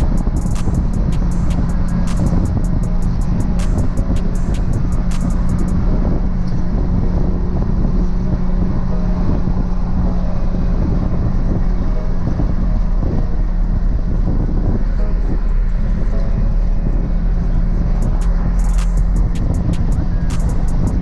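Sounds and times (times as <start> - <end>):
car engine droning: 0.0 - 21.0
road and wind noise: 0.0 - 21.0.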